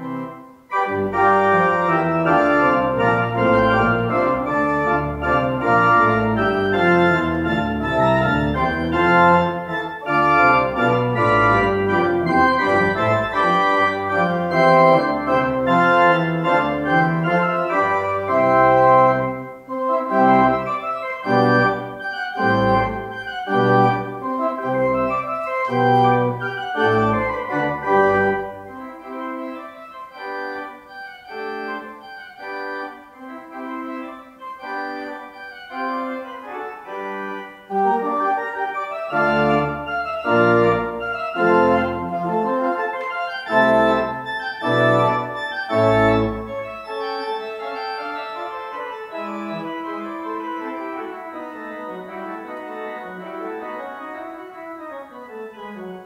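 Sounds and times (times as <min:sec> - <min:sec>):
organ pedal bass: 0:00.0 - 0:56.0
pipe organ chords: 0:00.0 - 0:56.0.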